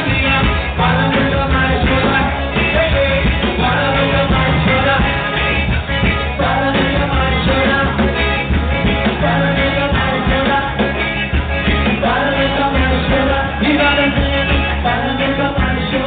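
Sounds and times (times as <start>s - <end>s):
bass: 0.0s - 16.0s
bass drum: 0.0s - 16.0s
drum kit: 0.0s - 16.0s
person singing: 0.0s - 16.0s.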